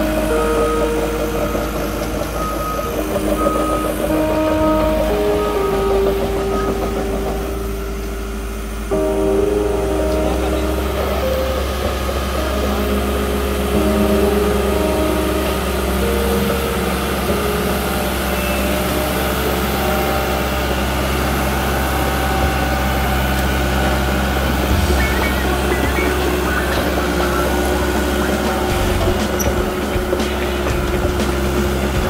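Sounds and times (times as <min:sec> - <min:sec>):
dozer diesel engine running: 0:00.0 - 0:32.0.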